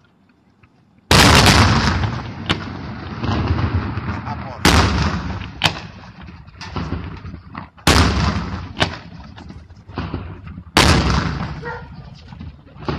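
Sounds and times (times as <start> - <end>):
firework shells booming: 1.0 - 12.9
sharp firework cracks: 1.1 - 12.9.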